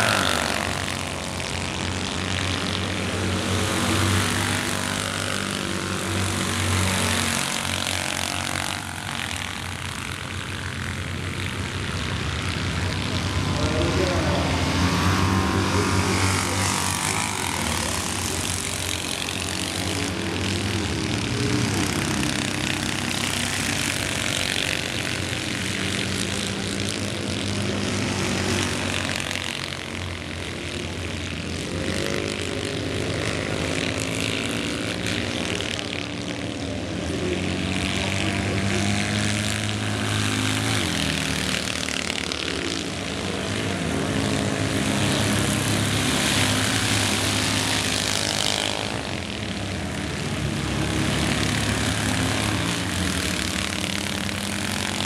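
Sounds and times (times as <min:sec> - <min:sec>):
racing car engines buzzing: 0:00.0 - 0:55.0.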